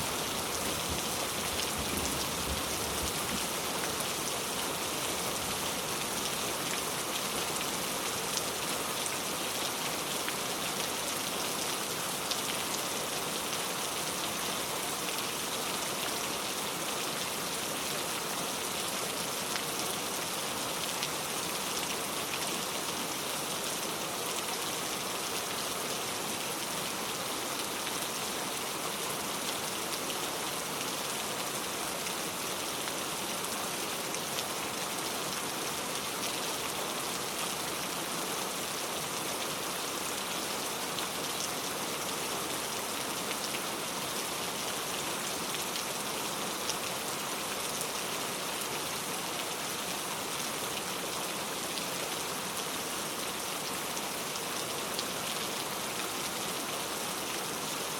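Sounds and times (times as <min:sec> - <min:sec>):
heavy rain on a road: 0:00.0 - 0:57.9.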